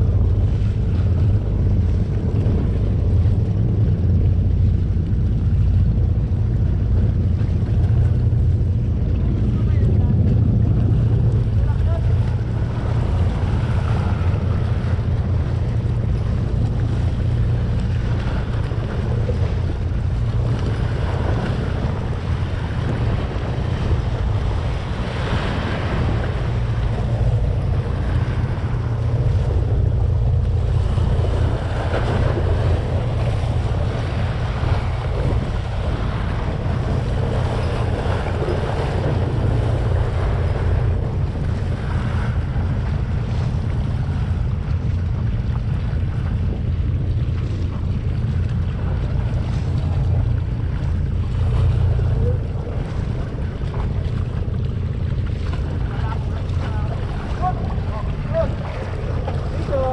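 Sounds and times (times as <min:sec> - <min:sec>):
waves splashing against rocks: 0:00.0 - 0:59.9
wind buffeting microphone: 0:00.0 - 0:59.9.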